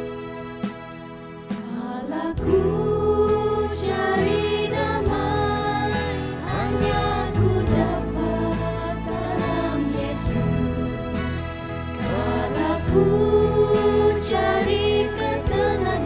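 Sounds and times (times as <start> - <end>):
instrumental accompaniment with beat: 0.0 - 16.0
vocal group singing in harmony: 1.5 - 16.0.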